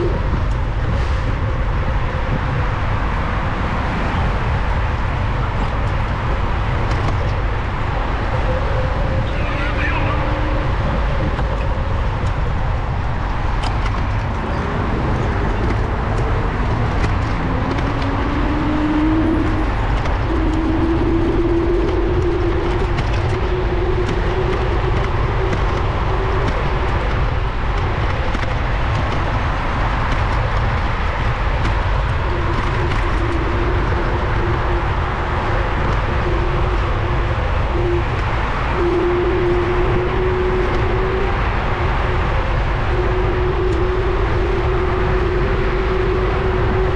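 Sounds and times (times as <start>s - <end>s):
road traffic rumble: 0.0s - 46.9s
wind buffeting camera: 0.0s - 46.9s.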